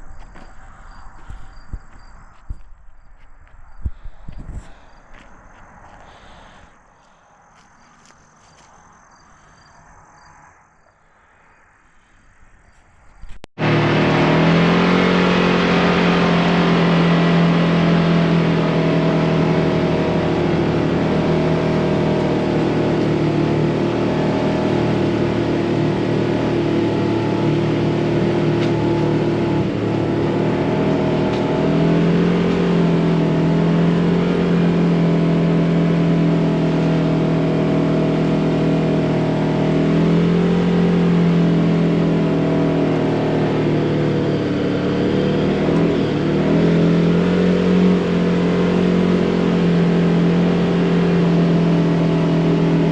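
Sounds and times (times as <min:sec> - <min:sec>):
off-road vehicle engine running: 0:00.0 - 0:08.8, 0:13.2 - 0:52.9.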